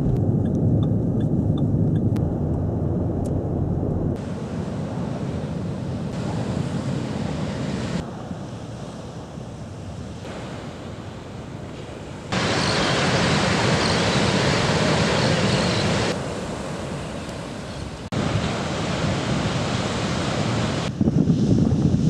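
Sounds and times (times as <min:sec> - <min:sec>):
wind on microphone: 0:00.0 - 0:22.0
ocean surf breaking: 0:03.4 - 0:21.2.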